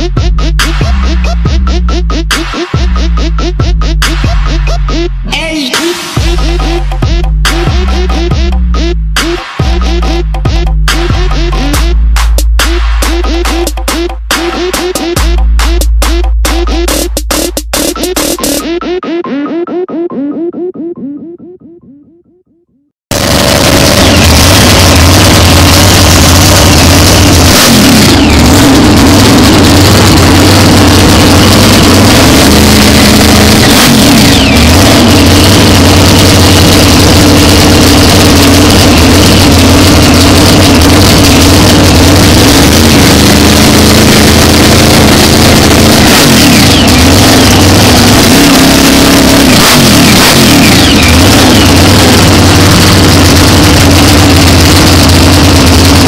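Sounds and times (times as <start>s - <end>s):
supercharged car engine revving: 0.0s - 18.9s, 23.1s - 56.0s.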